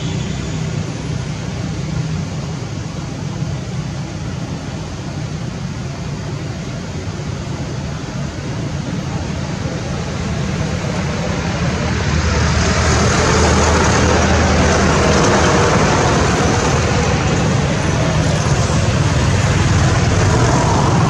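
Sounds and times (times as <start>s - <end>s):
road traffic hiss: 0.0s - 21.0s
vehicle engine humming: 0.0s - 21.0s.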